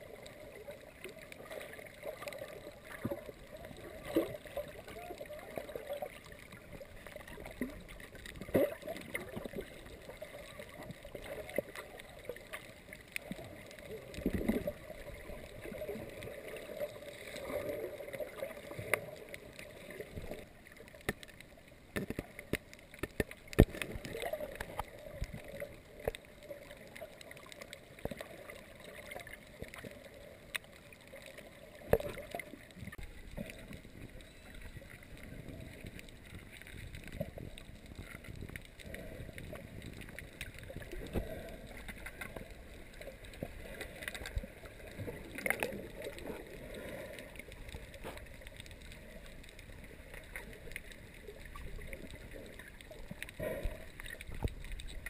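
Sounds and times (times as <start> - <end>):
muffled underwater water wash: 0.0 - 55.0
sharp clicks and knocks underwater: 0.0 - 55.0.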